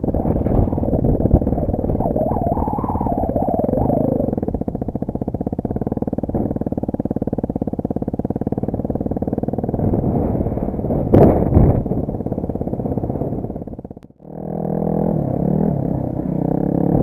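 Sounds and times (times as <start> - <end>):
motorcycle exhaust putter: 0.0 - 16.8.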